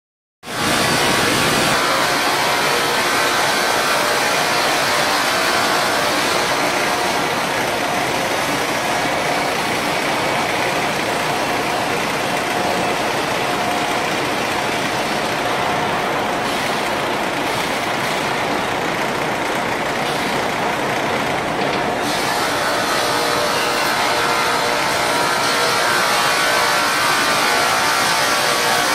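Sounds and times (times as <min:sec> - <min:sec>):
production line machinery hiss and hum: 0:00.5 - 0:28.9.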